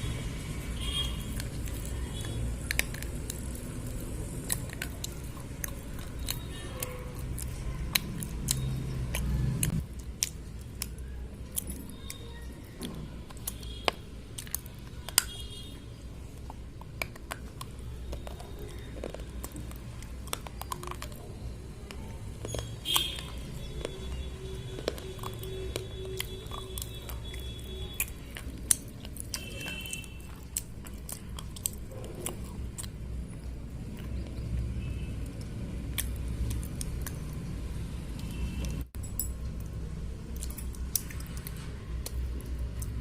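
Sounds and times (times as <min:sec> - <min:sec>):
crunching and snapping bites: 0:00.6 - 0:43.0.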